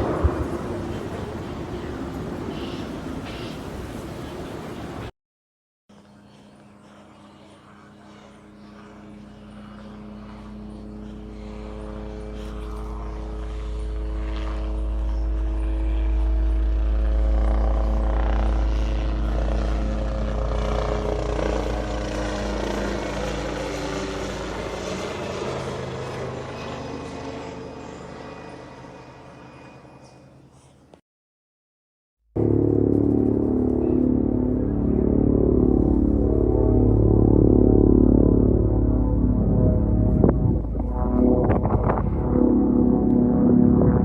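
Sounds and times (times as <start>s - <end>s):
aircraft engine drone: 0.0s - 5.1s, 5.9s - 30.6s, 32.4s - 44.0s.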